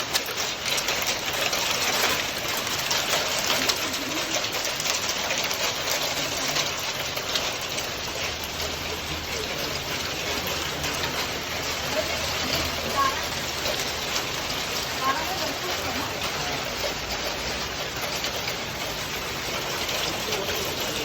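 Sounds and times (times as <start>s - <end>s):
hail and rain on hard surfaces: 0.0s - 21.0s.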